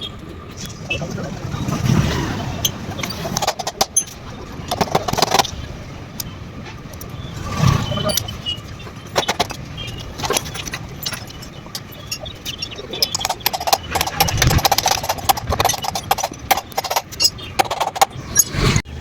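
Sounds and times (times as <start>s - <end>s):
low steady hum: 0.0s - 19.0s
clicking and clattering: 2.6s - 18.8s.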